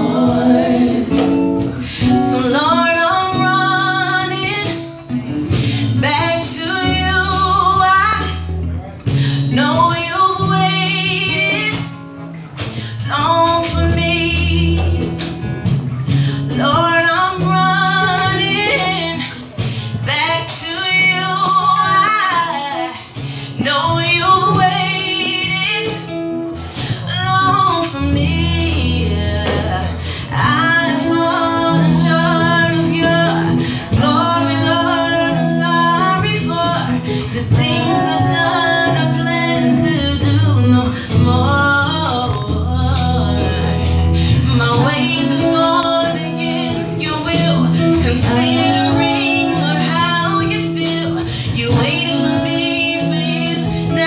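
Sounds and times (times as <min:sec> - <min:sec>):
woman singing gospel song: 0:00.0 - 0:08.5, 0:09.1 - 0:12.0, 0:12.6 - 0:54.0
instrumental accompaniment: 0:00.0 - 0:54.0.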